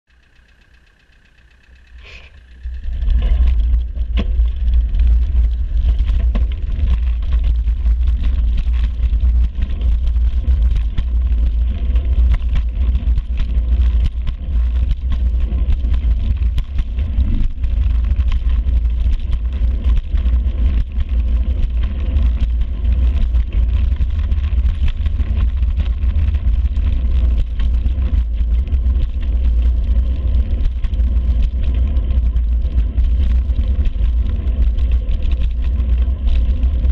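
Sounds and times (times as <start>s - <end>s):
road vibration: 0.1s - 36.9s
wind buffeting microphone: 2.6s - 36.9s.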